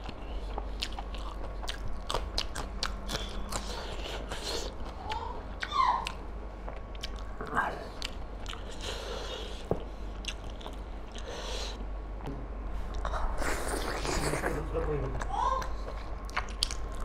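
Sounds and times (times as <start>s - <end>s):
wet chewing and mouth sounds: 0.0s - 11.8s, 12.8s - 17.0s.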